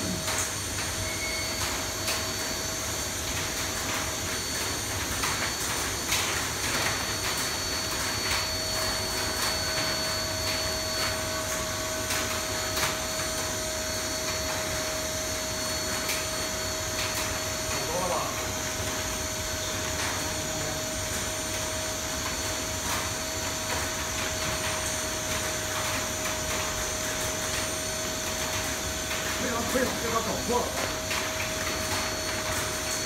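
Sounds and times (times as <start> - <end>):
vacuum humming: 0.0 - 33.0.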